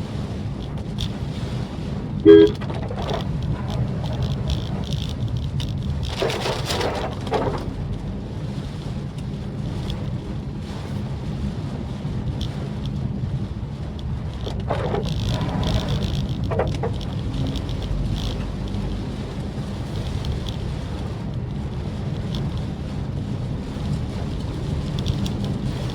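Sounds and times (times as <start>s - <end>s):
car engine and road rumble: 0.0s - 25.9s
rain: 0.0s - 25.9s.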